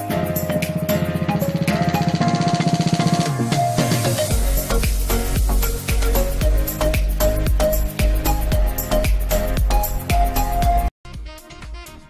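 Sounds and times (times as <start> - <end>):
music with heavy bass and drums: 0.0 - 12.0.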